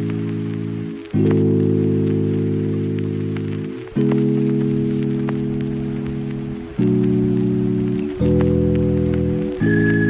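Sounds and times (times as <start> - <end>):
sustained chords background music: 0.0 - 10.0.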